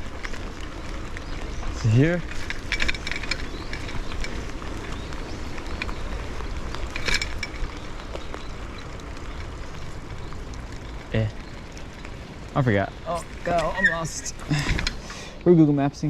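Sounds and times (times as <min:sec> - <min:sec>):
bicycle road noise: 0:00.0 - 0:16.0.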